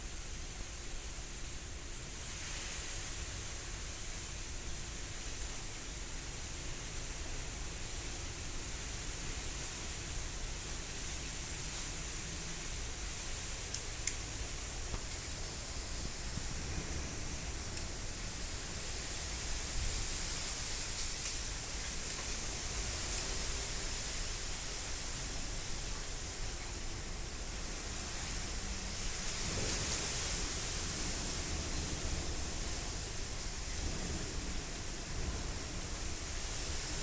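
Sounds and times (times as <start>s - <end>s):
rain: 0.0s - 37.0s.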